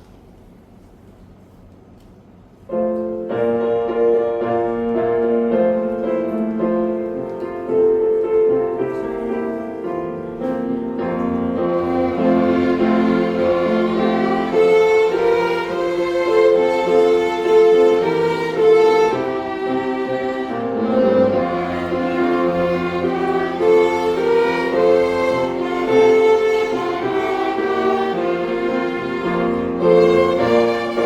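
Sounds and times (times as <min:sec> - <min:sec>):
string ensemble playing hymn: 0:04.0 - 0:31.0.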